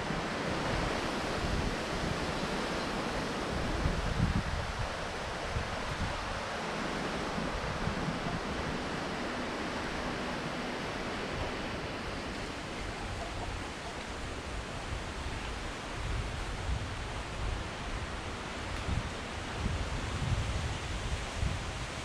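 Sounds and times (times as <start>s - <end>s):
wind buffeting on microphone: 0.0s - 22.0s
wind rushing through trees: 0.0s - 22.0s.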